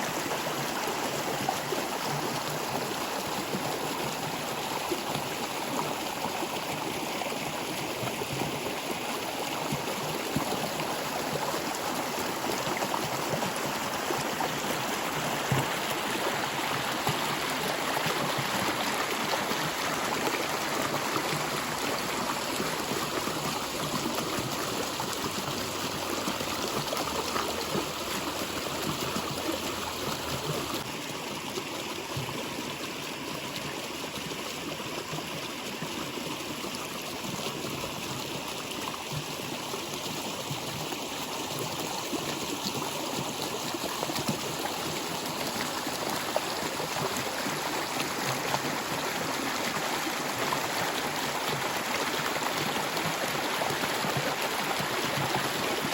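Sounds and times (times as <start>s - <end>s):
stream babbling over rocks: 0.0s - 55.9s.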